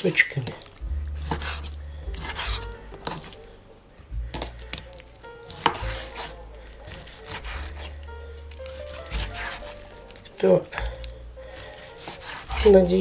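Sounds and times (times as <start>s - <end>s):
knife cutting raw chicken: 0.4s - 3.4s, 4.3s - 13.0s.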